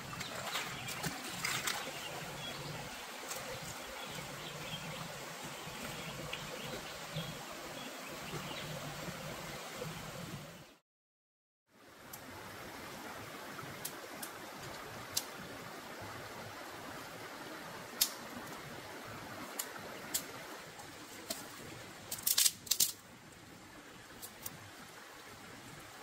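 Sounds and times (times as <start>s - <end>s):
forest stream rushing: 0.0s - 10.8s, 11.7s - 26.0s.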